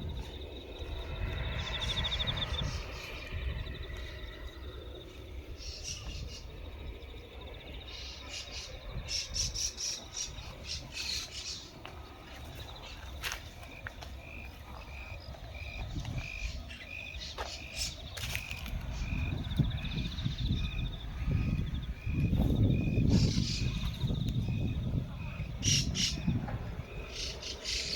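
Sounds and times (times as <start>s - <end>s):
flock of birds chirping: 0.0s - 27.9s.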